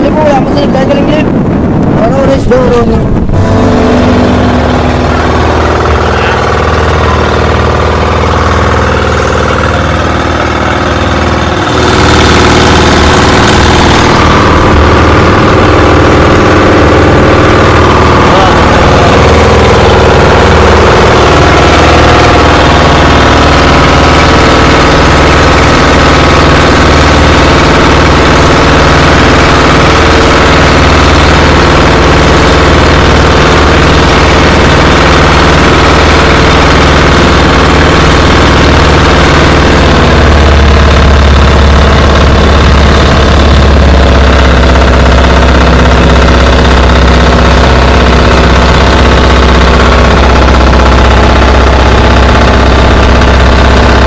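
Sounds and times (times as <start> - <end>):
motor engine running: 0.0 - 54.0.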